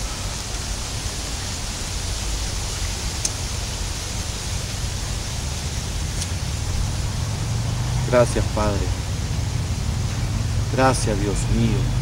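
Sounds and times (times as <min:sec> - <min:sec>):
hiss: 0:00.0 - 0:12.0.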